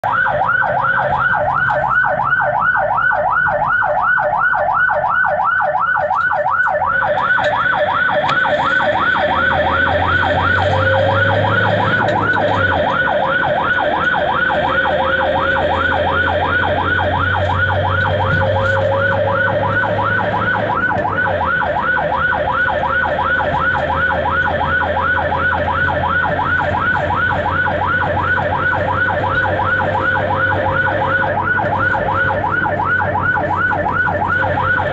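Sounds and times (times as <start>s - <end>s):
ambulance siren yelping: 0.0s - 34.9s
engine droning: 0.0s - 34.9s.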